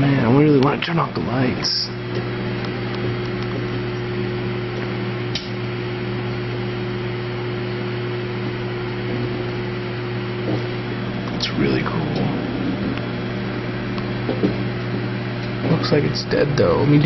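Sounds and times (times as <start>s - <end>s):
cooling fan whirring: 0.0s - 17.0s
microwave oven humming: 0.0s - 17.0s.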